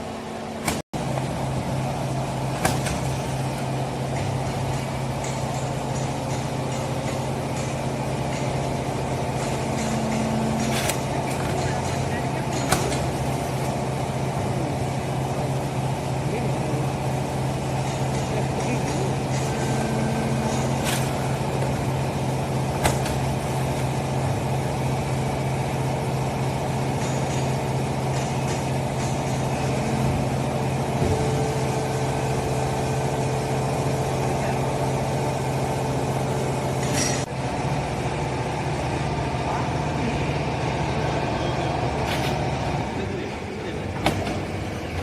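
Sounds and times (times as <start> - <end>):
baling press motor droning: 0.0 - 45.0.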